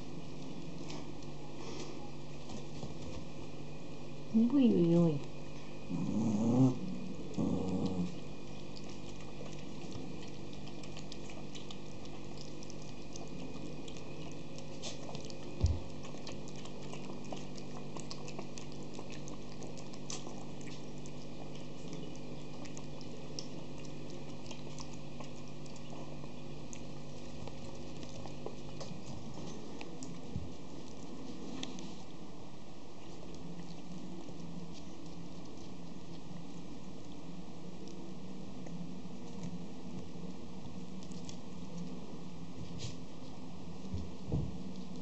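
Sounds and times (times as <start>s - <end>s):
puppies lapping liquid: 0.0s - 45.0s.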